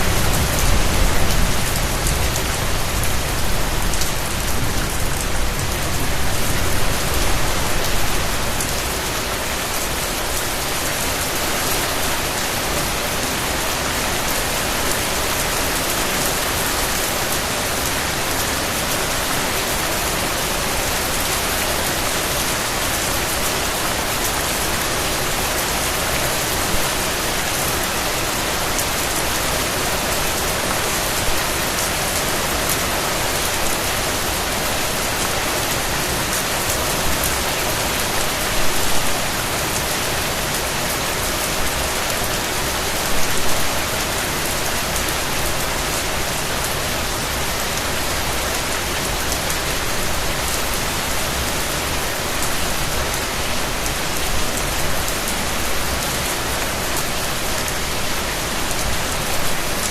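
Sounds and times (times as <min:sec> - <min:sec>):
louder spatters of rain: 0:00.0 - 0:59.9
steady rain falling: 0:00.0 - 0:59.9.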